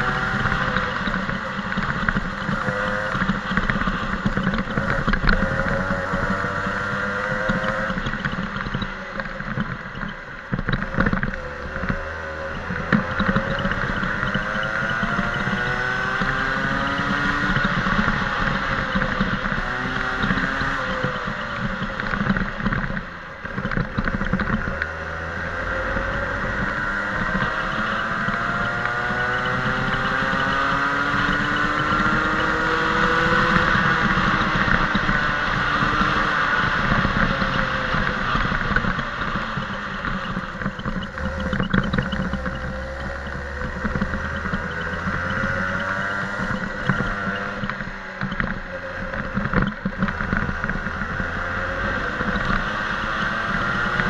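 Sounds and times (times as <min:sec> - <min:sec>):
racing kart engine: 0:00.0 - 0:54.0.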